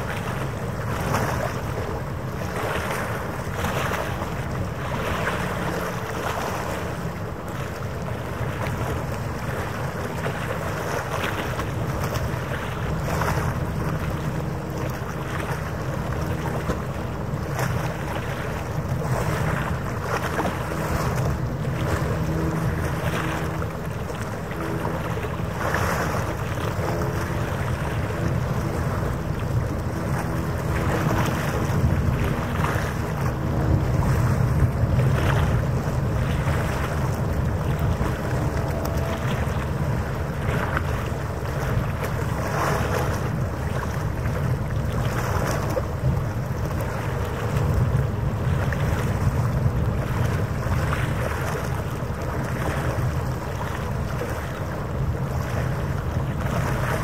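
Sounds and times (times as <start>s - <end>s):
low boat engine hum: 0.0s - 57.0s
water washing in harbour: 0.0s - 57.0s
wind buffeting microphone: 0.0s - 57.0s.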